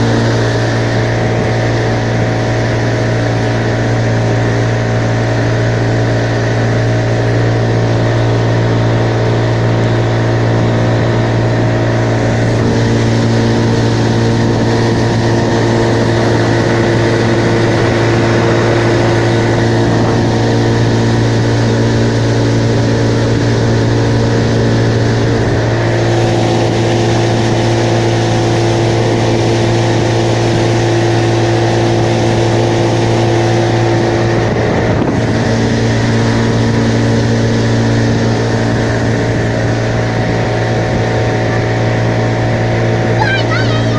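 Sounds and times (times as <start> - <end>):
engine running with low hum: 0.0 - 43.9.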